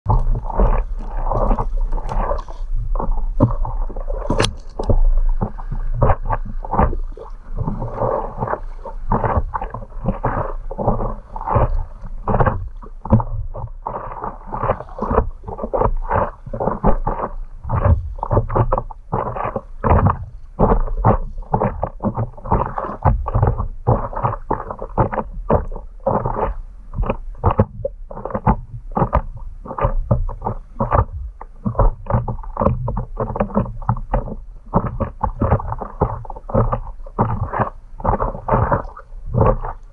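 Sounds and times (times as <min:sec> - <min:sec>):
steady low rumble: 0:00.0 - 0:39.9
water slapping against board: 0:00.1 - 0:39.9.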